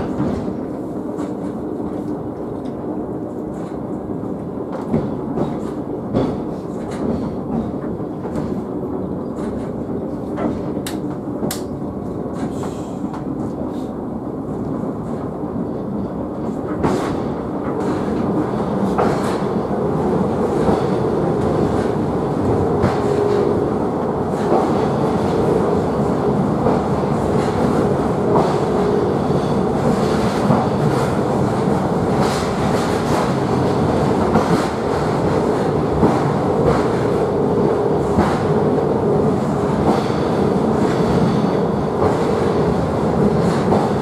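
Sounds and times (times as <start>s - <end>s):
steel wheels rumbling on rails: 0.0s - 44.0s.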